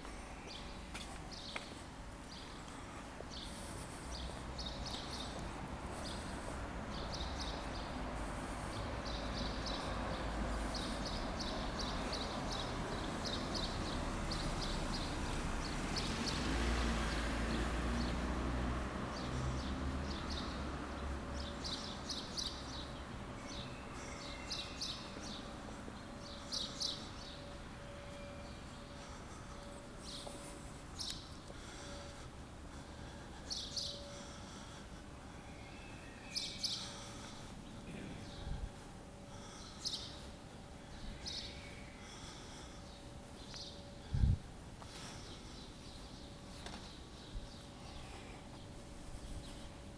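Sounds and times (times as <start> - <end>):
small birds chirping: 0.0 - 18.2, 19.1 - 49.9.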